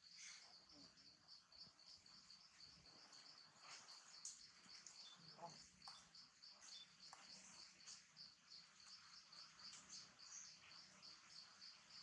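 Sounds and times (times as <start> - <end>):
faint insect chirping: 0.0 - 12.0.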